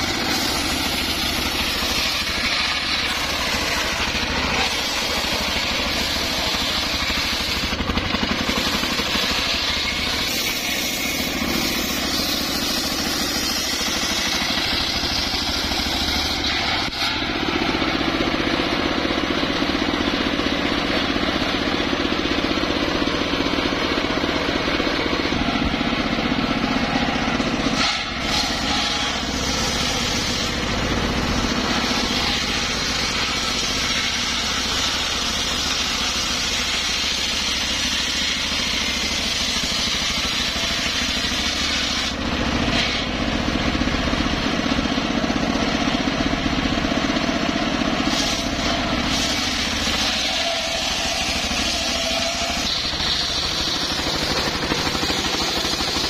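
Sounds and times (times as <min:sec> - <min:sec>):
circular saw ripping through log: 0:00.0 - 0:46.1, 0:47.3 - 0:56.0
engine drone: 0:00.0 - 0:56.0.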